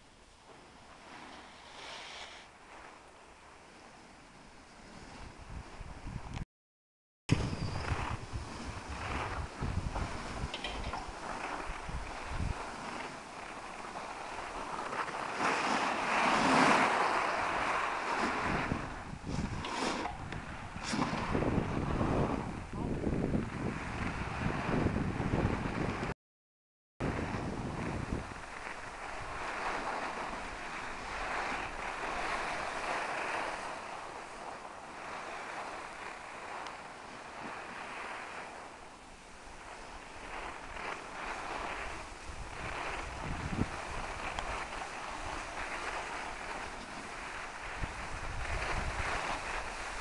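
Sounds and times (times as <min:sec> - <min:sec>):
wind on microphone: 0:00.0 - 0:06.4, 0:07.3 - 0:26.2, 0:27.0 - 0:50.0
snowboard scraping over snow: 0:00.5 - 0:04.0, 0:07.6 - 0:26.1, 0:27.0 - 0:50.0.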